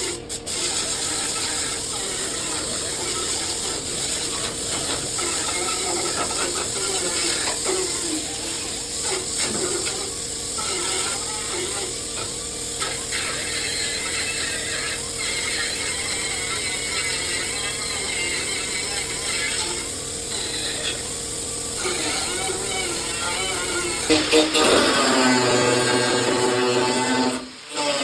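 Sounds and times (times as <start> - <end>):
power drill drilling sheet metal: 1.0 - 28.0.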